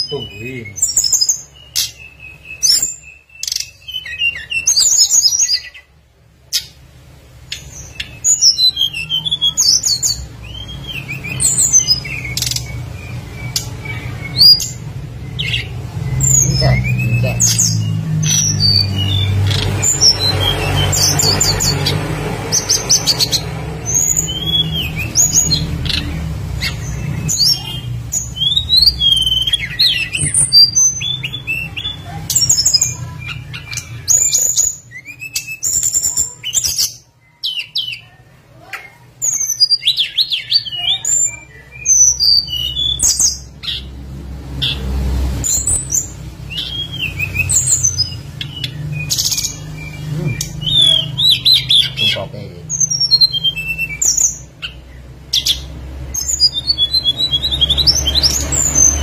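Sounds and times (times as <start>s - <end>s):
bird chirps and trills: 0.0s - 59.0s.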